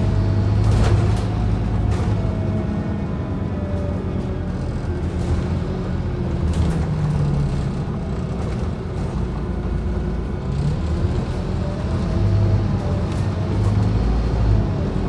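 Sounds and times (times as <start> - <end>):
bus diesel engine: 0.0 - 15.0
tyre and road noise: 0.0 - 15.0.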